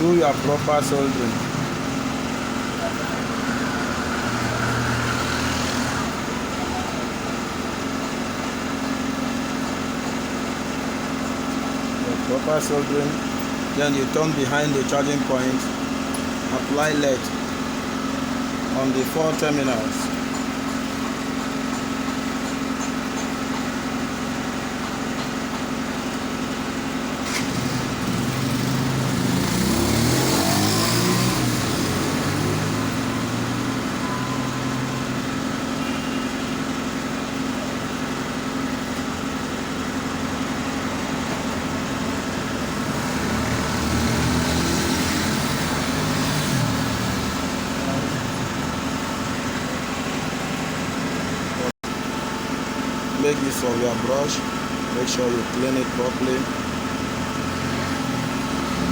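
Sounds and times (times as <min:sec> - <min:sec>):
engine rising and falling in pitch: 0:00.0 - 0:21.3, 0:26.3 - 0:58.9
steady motor hum: 0:00.0 - 0:58.9.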